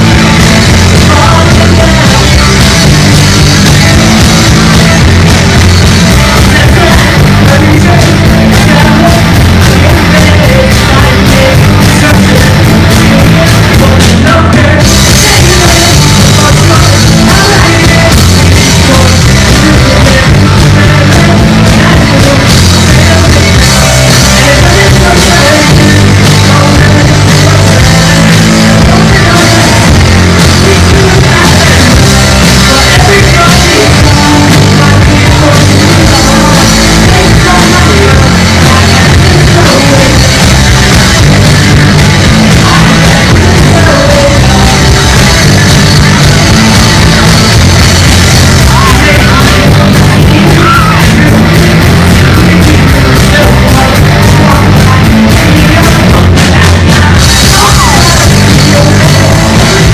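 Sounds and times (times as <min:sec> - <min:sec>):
bass guitar: 0:00.0 - 0:59.9
drums: 0:00.0 - 0:59.9
electric guitars: 0:00.0 - 0:59.9
person singing: 0:00.0 - 0:59.9.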